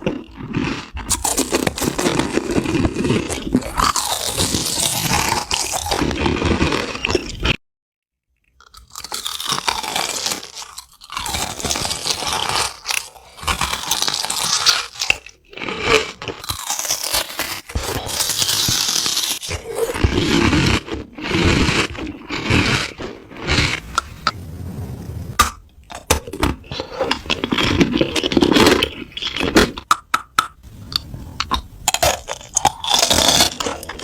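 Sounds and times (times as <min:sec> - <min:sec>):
crunching and chewing crisp food: 0:00.0 - 0:07.6, 0:08.4 - 0:24.4, 0:25.4 - 0:34.0.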